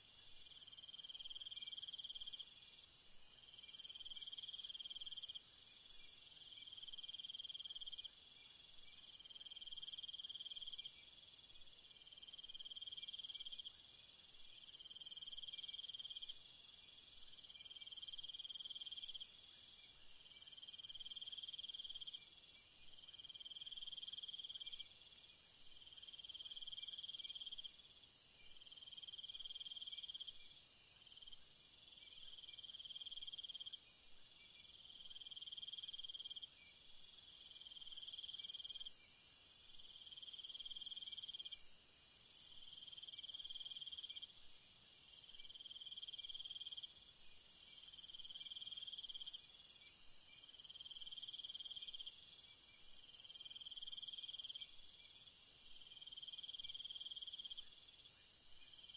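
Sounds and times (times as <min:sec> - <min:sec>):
insect chirping in trills: 0:00.0 - 0:58.9.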